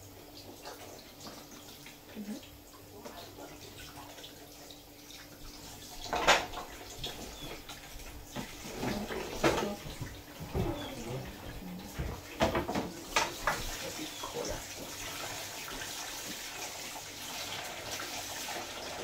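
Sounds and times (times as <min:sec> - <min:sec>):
fish being washed by hand: 0:00.0 - 0:19.0
tap water running into a sink: 0:00.0 - 0:19.0.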